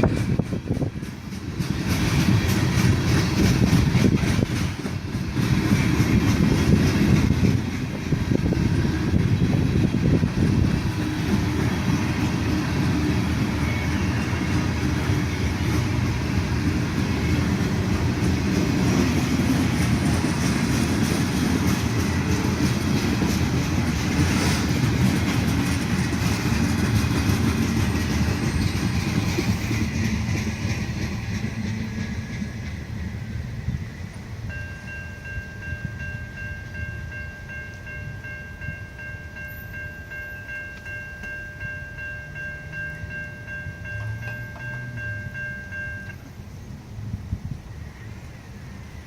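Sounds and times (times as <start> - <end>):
train cars clattering: 0.0 - 46.6
freight train cars rolling past: 0.0 - 49.0.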